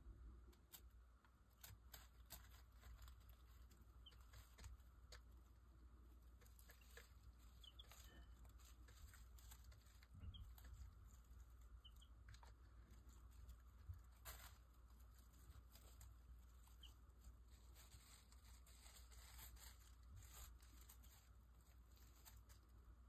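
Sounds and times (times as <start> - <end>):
chicks peeping: 1.6 - 5.4, 6.2 - 21.2.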